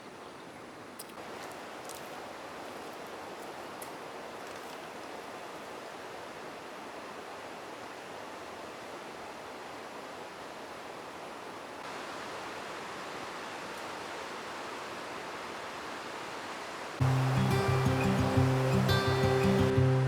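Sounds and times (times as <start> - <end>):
river water rushing: 1.2 - 20.0.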